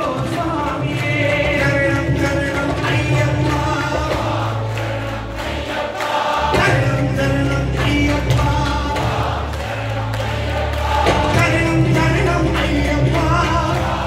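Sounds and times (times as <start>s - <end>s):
men singing devotional song: 0.0s - 14.0s
tabla: 0.0s - 14.0s.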